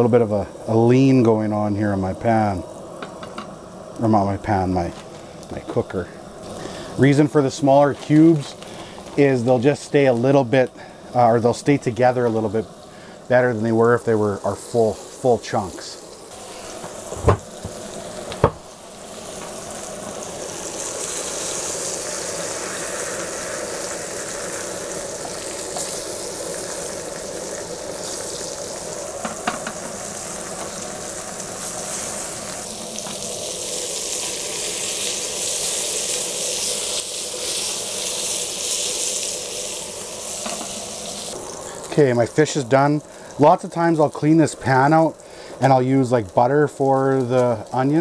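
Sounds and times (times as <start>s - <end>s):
fish sizzling in a frying pan: 0.0s - 48.0s.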